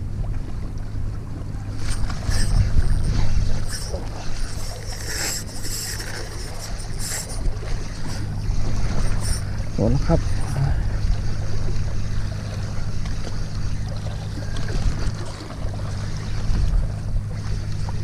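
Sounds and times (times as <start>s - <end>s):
boat engine droning: 0.0s - 18.0s
water splashing: 0.0s - 18.0s.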